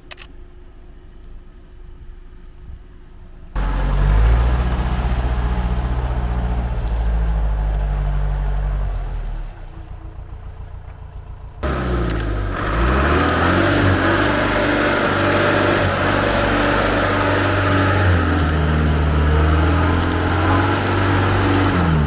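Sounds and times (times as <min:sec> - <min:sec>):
vehicle engine revving: 0:03.6 - 0:22.0.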